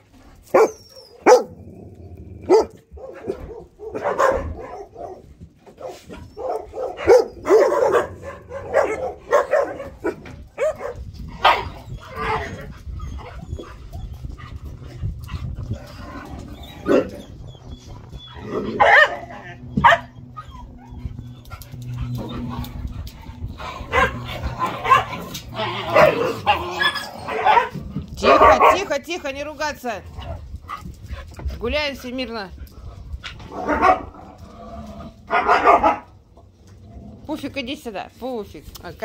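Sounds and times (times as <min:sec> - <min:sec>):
dogs barking and yipping: 0:00.4 - 0:29.1, 0:33.2 - 0:34.4, 0:35.1 - 0:36.6.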